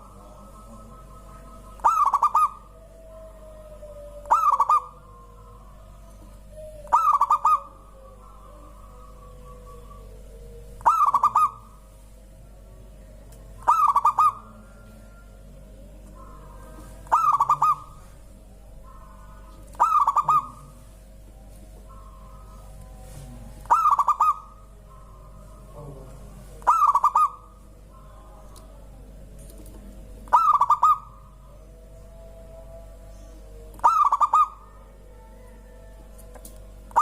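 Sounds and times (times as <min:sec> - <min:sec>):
other birds calling: 0:00.0 - 0:29.2, 0:29.8 - 0:37.0
dove cooing: 0:00.0 - 0:37.0.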